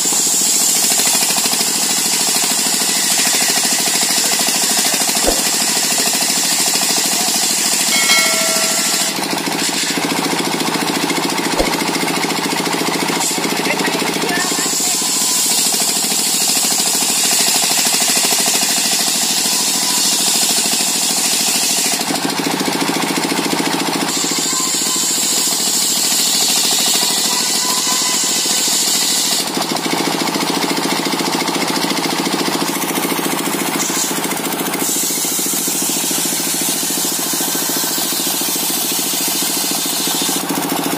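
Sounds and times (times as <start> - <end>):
circular saw cutting wood: 0.0 - 22.3, 24.1 - 30.0, 33.0 - 40.8.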